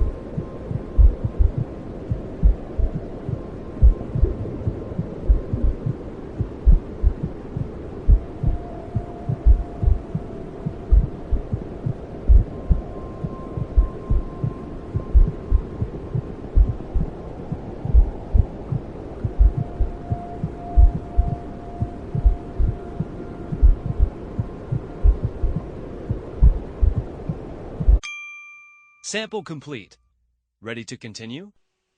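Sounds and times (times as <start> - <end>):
faint soft tones: 0.0 - 28.0
heartbeat thumping: 0.0 - 28.0
low whooshing noise: 0.0 - 28.0.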